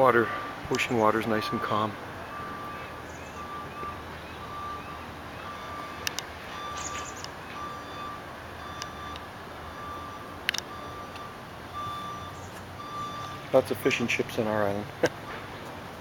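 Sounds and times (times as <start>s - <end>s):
low engine rumble: 0.0s - 16.0s
reversing alarm beeping: 0.2s - 13.6s.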